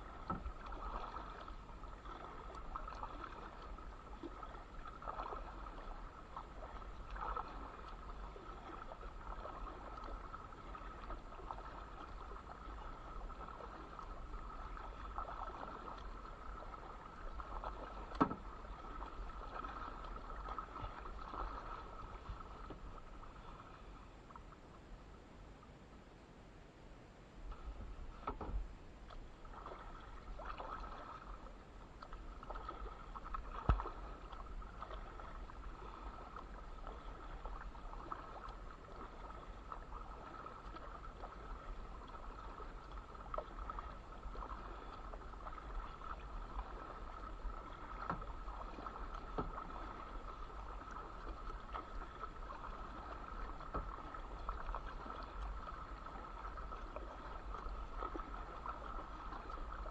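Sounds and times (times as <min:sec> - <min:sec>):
paddle splashing in water: 0:00.0 - 0:24.5, 0:27.4 - 0:59.9.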